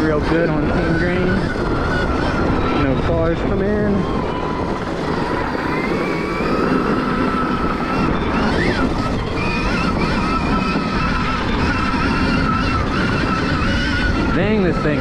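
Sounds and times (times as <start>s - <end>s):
electric motor whining: 0.0s - 15.0s
wind on microphone: 0.0s - 15.0s.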